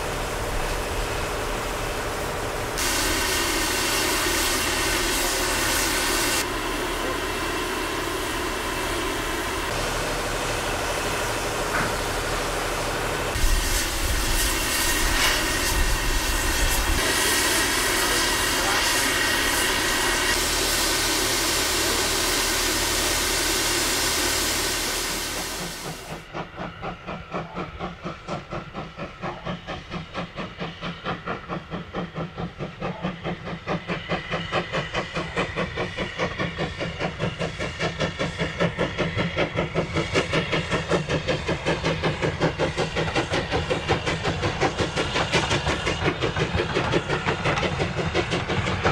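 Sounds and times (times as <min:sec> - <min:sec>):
steam hissing: 0:00.0 - 0:48.9
steam locomotive exhaust beats: 0:00.0 - 0:48.9.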